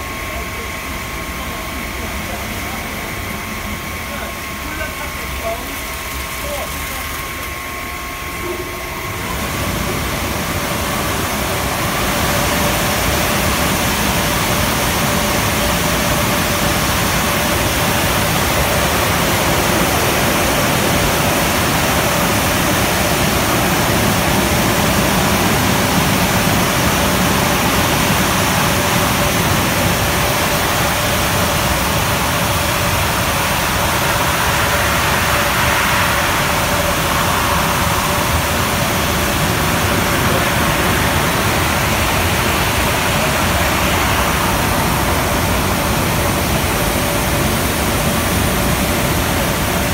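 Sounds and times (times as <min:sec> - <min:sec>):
car wash rushing noise: 0:00.0 - 0:49.9.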